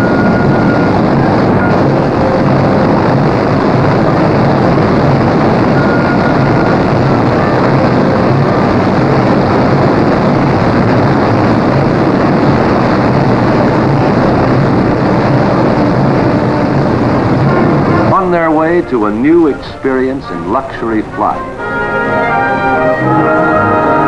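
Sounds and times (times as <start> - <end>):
radial piston engines droning: 0.0 - 24.0.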